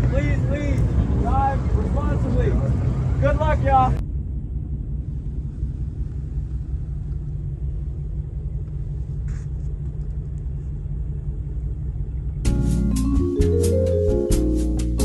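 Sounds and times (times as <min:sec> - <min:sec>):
car engines rumbling: 0:00.0 - 0:15.0.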